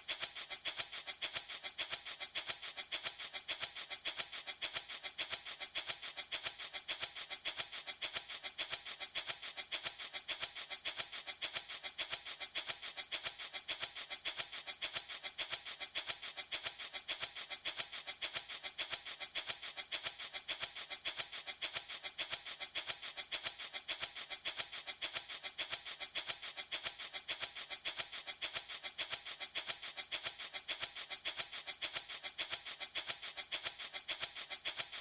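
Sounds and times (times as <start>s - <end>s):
wooden baby rattle shaken: 0.0s - 35.0s.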